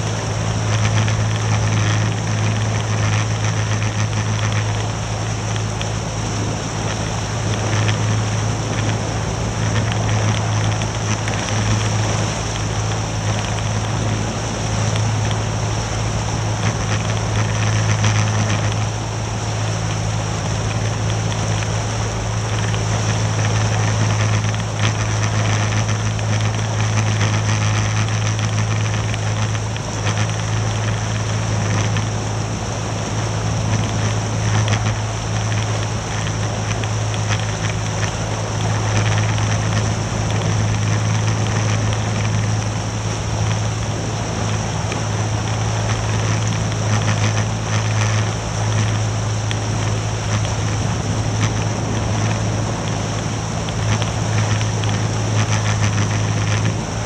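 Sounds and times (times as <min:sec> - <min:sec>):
outboard motor droning: 0:00.0 - 0:57.0
rushing water: 0:00.0 - 0:57.0
wind noise: 0:00.0 - 0:57.0.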